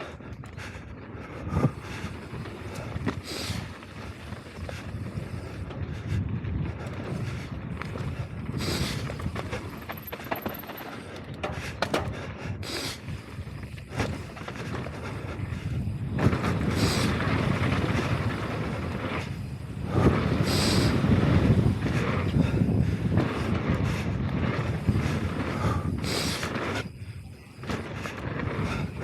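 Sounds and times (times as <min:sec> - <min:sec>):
bike tyres rolling over dirt: 0:00.0 - 0:29.0
wind on microphone: 0:00.2 - 0:09.9, 0:11.3 - 0:29.0
bike knocks and rattles: 0:01.7 - 0:29.0.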